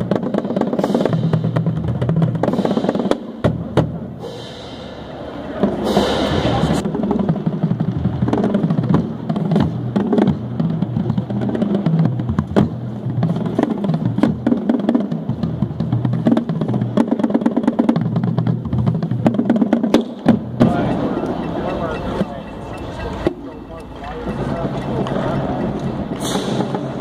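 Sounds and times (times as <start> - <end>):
marching bass drums: 0.0 - 5.0, 5.6 - 27.0.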